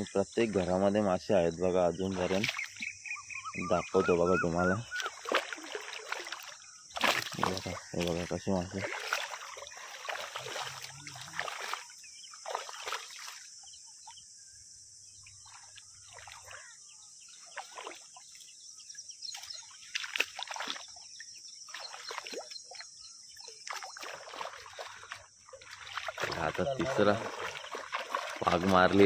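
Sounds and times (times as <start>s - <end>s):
shallow water splashing: 0.0s - 14.1s, 15.2s - 29.0s.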